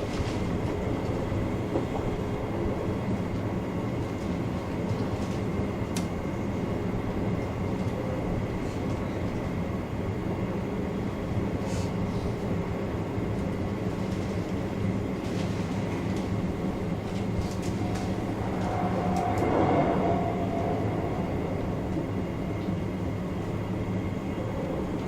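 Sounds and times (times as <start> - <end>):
train running gear rumble: 0.0 - 25.0.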